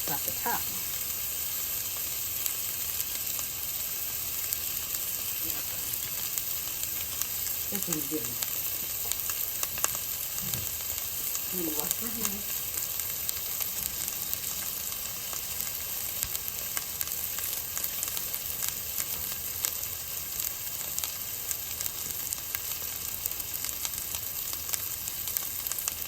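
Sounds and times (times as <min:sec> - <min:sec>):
grease popping: 0:00.0 - 0:26.0
meat sizzling in a pan: 0:00.0 - 0:26.0.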